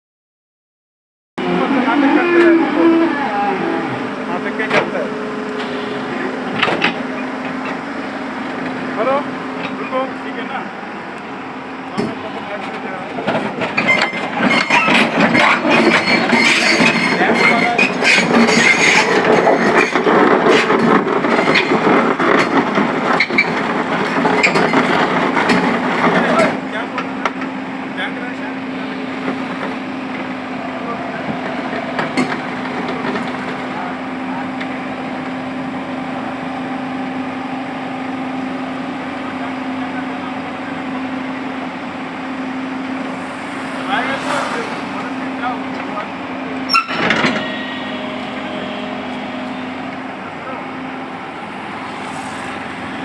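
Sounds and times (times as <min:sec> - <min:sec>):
excavator diesel engine running: 0:01.4 - 0:53.0.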